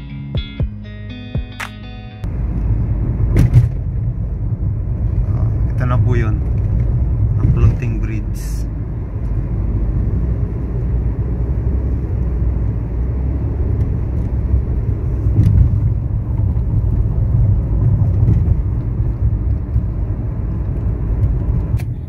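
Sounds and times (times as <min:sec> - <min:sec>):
car driving low rumble: 0:02.2 - 0:22.0.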